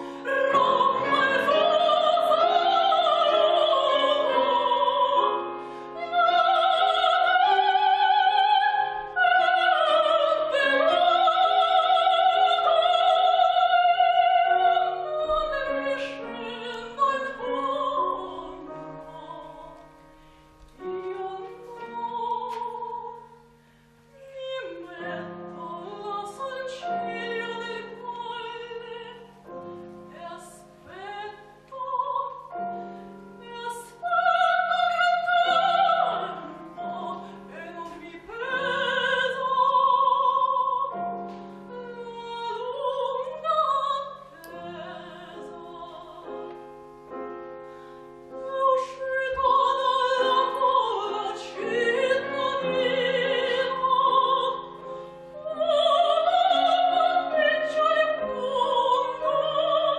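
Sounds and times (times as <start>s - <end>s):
operatic soprano singing: 0.0s - 20.0s, 20.8s - 23.4s, 24.2s - 46.6s, 48.3s - 59.9s
piano accompaniment: 0.0s - 59.9s.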